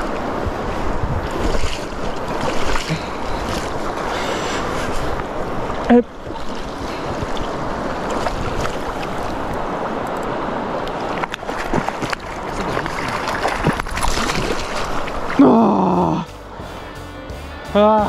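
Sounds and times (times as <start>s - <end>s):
wind on microphone: 0.0s - 15.5s
river water flowing: 0.0s - 18.0s.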